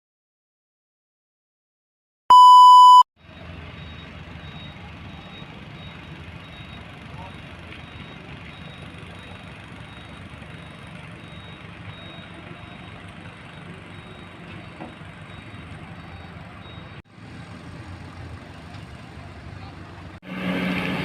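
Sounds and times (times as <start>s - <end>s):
excavator diesel engine rumbling: 3.2s - 21.0s.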